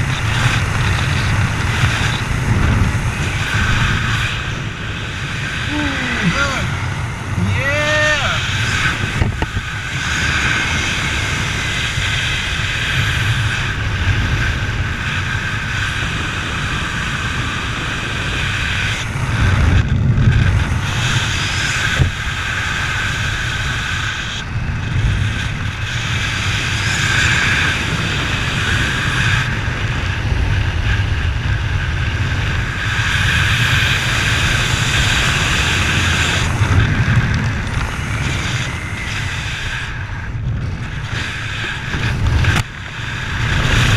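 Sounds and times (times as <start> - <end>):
vehicle engine rumble: 0.0 - 43.9
wind noise: 0.0 - 43.9.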